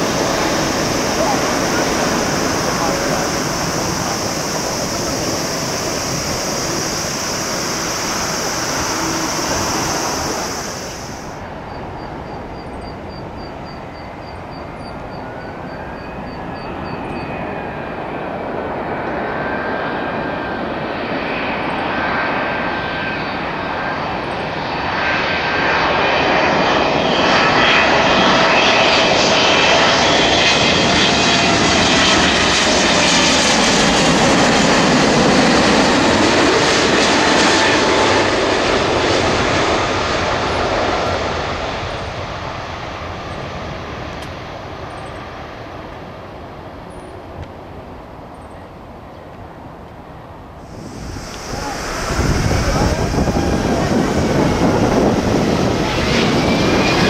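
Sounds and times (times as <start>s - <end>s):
jet engines roaring: 0.0s - 48.2s, 50.4s - 57.0s
jet engine whine: 0.0s - 57.0s.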